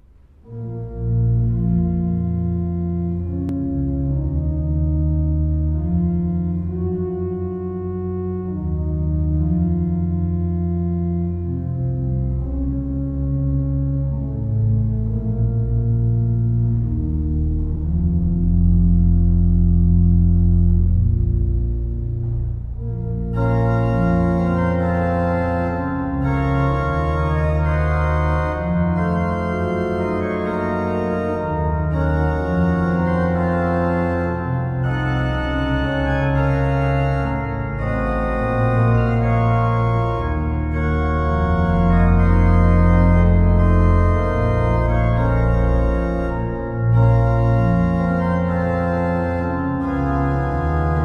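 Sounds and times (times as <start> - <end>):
deep bass line: 0.0 - 51.0
slow held chords: 0.0 - 51.0.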